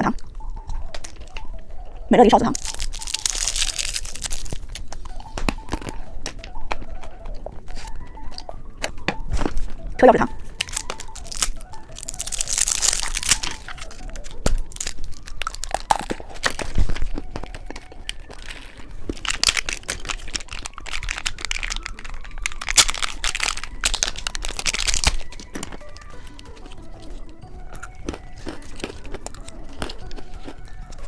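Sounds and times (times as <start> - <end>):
plastic wrappers crinkling: 2.5 - 31.0.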